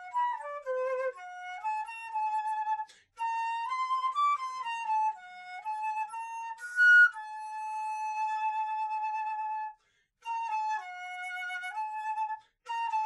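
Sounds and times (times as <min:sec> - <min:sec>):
solo instrumental melody: 0:00.0 - 0:13.0.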